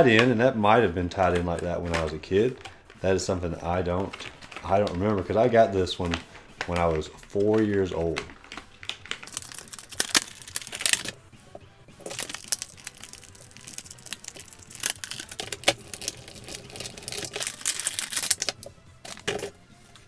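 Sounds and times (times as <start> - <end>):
plastic packaging crinkling: 1.2 - 11.2, 12.0 - 20.0.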